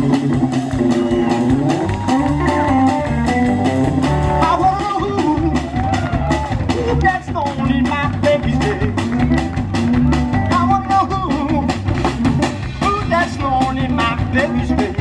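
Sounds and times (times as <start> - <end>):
bass line: 0.0 - 15.0
blues band music: 0.0 - 15.0
sliding lead guitar line: 0.0 - 15.0
steady drum beat: 0.0 - 15.0.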